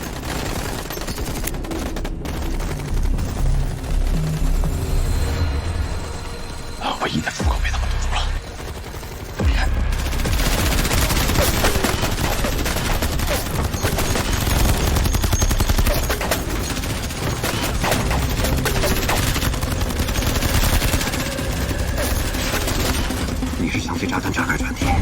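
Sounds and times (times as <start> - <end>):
rapid gunfire: 0.0 - 5.3, 7.4 - 25.0.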